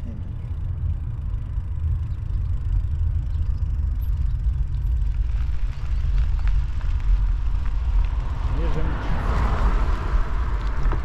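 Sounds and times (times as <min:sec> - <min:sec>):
wind buffeting microphone: 0:00.6 - 0:11.0.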